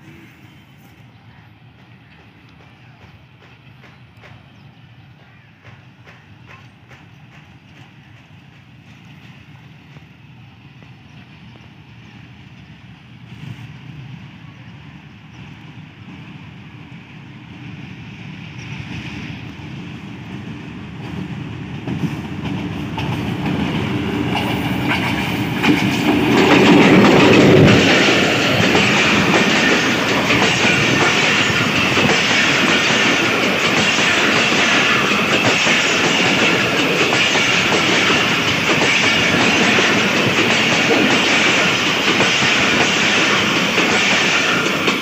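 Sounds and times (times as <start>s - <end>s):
diesel locomotive passing: 0.0s - 45.0s
train wheels clickety-clack: 1.6s - 14.2s, 15.3s - 45.0s.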